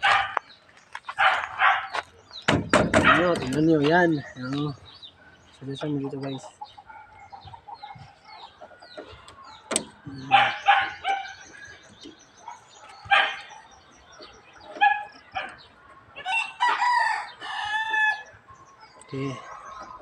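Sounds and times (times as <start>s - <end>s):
chickens clucking: 1.2s - 20.0s.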